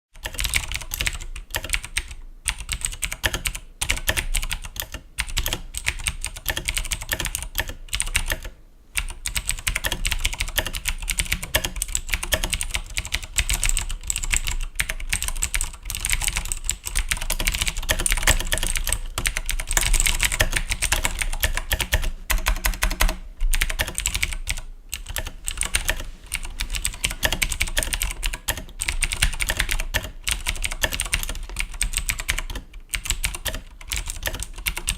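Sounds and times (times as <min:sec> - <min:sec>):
mechanical keyboard typing clicks: 0:00.2 - 0:34.9.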